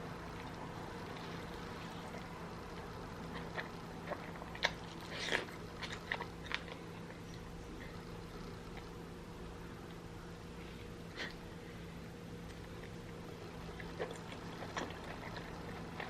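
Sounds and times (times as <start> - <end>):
wet smacking and chewing: 0.0 - 10.1, 12.3 - 16.0.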